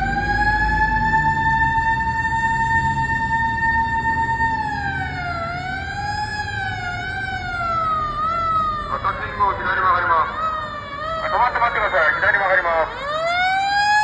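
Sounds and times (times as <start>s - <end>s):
mechanical siren wailing: 0.0s - 14.0s
truck engine rumbling: 0.0s - 14.0s.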